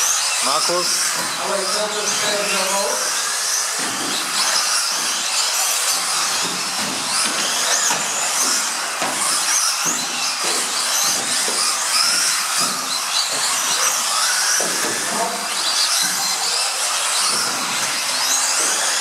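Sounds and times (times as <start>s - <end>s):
electric model car motors whining: 0.0s - 19.0s
tyre and track noise: 0.4s - 19.0s.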